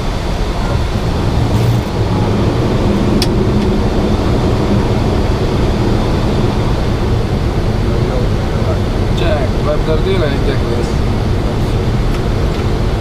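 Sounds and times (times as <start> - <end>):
airflow and engine rumble: 0.0 - 13.0.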